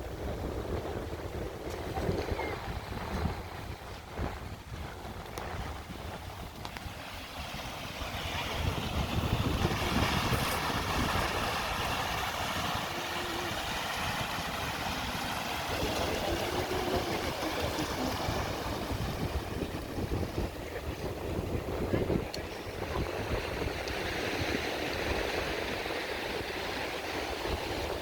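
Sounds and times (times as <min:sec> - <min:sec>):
ocean surf washing in: 0:00.0 - 0:28.0
wind rumbling on microphone: 0:00.0 - 0:28.0.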